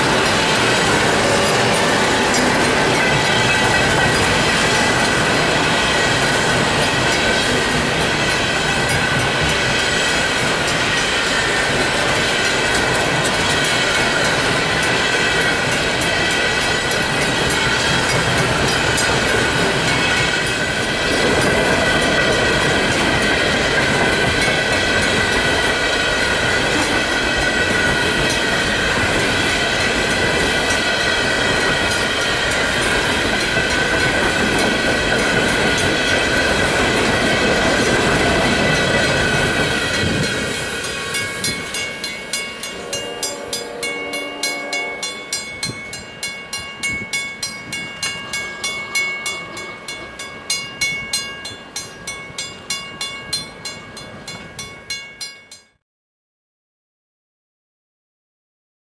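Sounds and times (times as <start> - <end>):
train wheels clattering on rails: 0.0 - 54.7
crossing warning bell ringing: 0.0 - 55.8.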